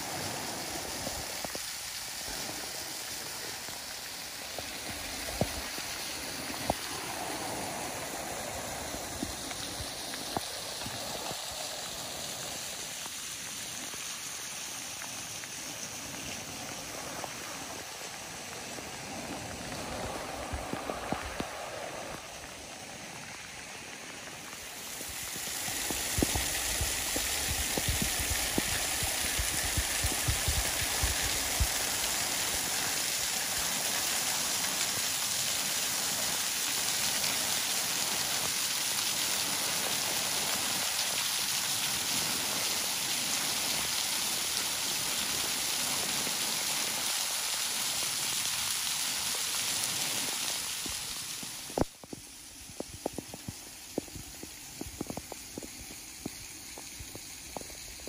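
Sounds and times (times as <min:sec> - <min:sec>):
rain hissing: 0:00.0 - 0:58.0
waterfall splashing onto stones: 0:00.0 - 0:58.0.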